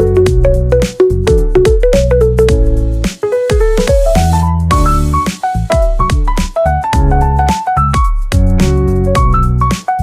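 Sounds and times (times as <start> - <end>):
upbeat mallet melody music: 0.0 - 8.5.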